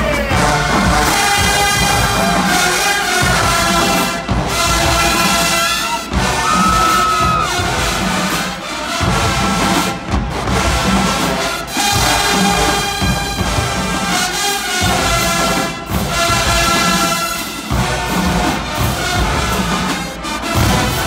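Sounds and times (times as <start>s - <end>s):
brass: 0.0s - 21.0s
drumline: 0.0s - 21.0s
marching band playing: 0.0s - 21.0s.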